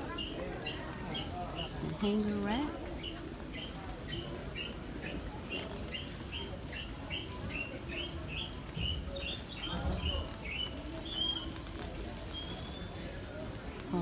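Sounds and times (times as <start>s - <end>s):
squeaky shopping cart wheel: 0.0s - 13.3s.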